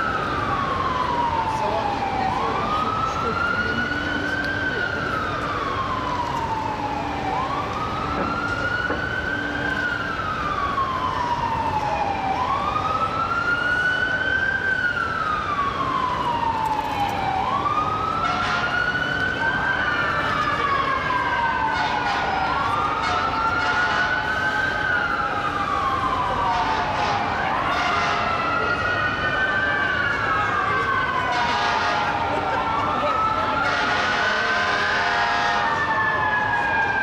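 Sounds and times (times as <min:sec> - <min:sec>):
fire truck siren wailing: 0:00.0 - 0:37.0
street traffic: 0:00.0 - 0:37.0.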